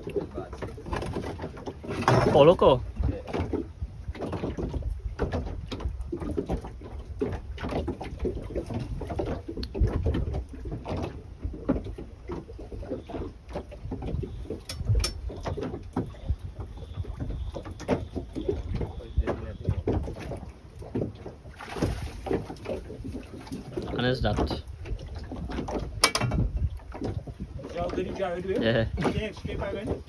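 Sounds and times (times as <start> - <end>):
gear knocking against boat: 0.0 - 30.0
water lapping at boat hull: 0.0 - 30.0
wind rumbling on microphone: 0.0 - 30.0.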